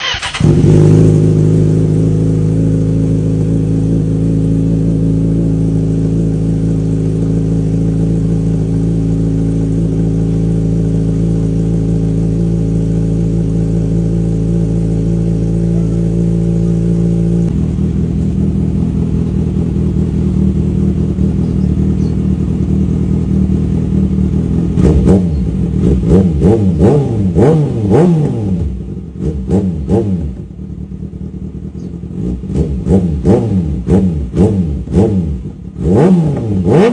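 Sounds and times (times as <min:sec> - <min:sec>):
motorcycle engine idling: 0:00.0 - 0:36.9
motorcycle throttle blips: 0:00.0 - 0:36.9.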